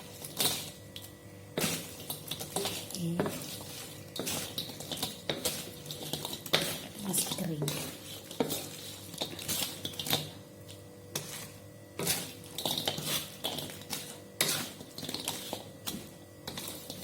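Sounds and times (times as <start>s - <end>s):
spatula scraping a pan: 0.0s - 0.9s, 1.5s - 10.4s, 11.1s - 17.0s.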